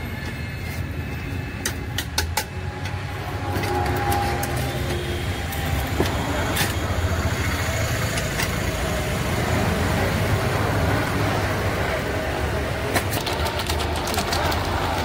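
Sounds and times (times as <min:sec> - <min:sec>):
outdoor street noise: 0:00.0 - 0:15.0.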